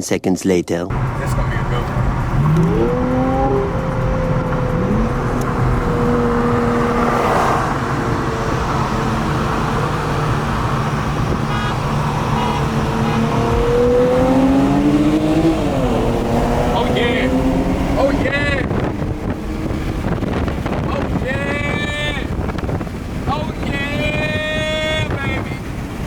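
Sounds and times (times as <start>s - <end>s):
car engine running: 0.9s - 26.0s.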